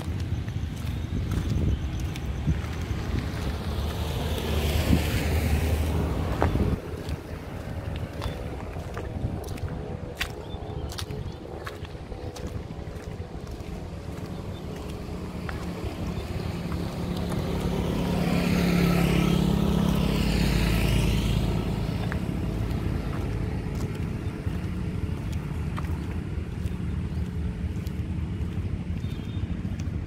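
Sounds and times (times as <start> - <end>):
low engine drone: 0.0 - 30.0
vehicle passing by: 0.0 - 30.0.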